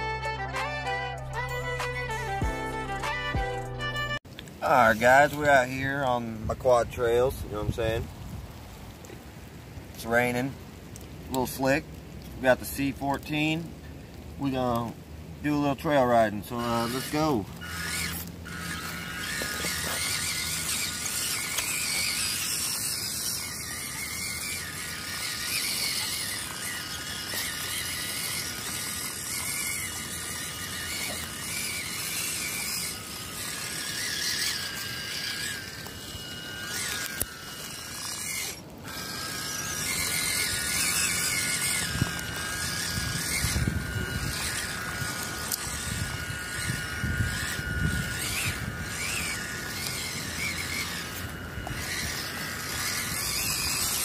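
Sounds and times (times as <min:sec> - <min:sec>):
toy truck electric motor whining: 0:00.0 - 0:06.0, 0:15.5 - 0:54.0.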